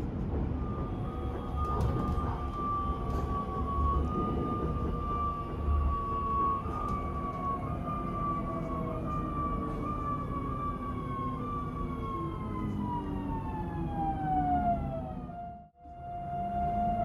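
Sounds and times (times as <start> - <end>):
wheels rumbling on track: 0.0 - 17.0.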